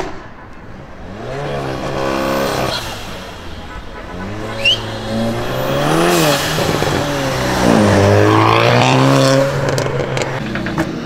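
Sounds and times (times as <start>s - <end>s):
car engine accelerating: 0.8s - 11.0s.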